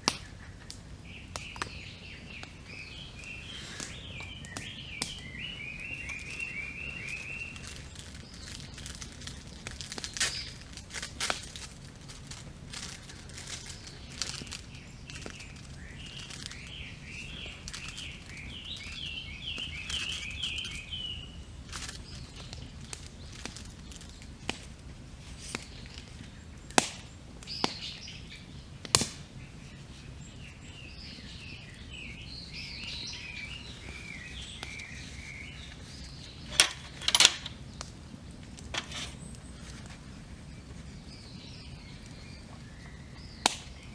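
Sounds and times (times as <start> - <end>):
campfire burning: 0.0 - 43.9
fire crackling and popping: 0.0 - 43.9
small birds singing: 0.0 - 43.9.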